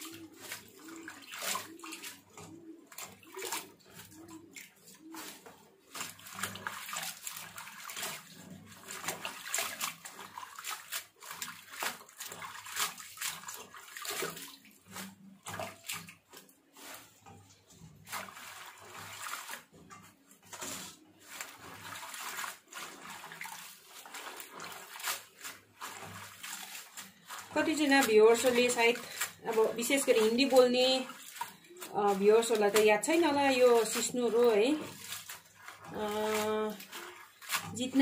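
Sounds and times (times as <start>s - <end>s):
water sloshing in a steel bowl: 0.0s - 38.0s.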